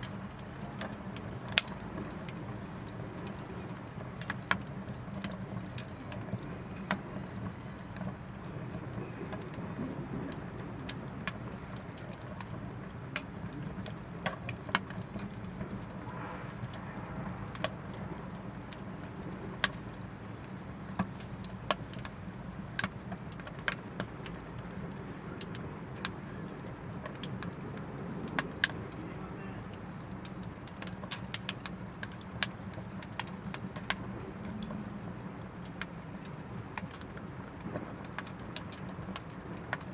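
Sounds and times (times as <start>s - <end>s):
wood stove fire crackling: 0.0s - 39.9s.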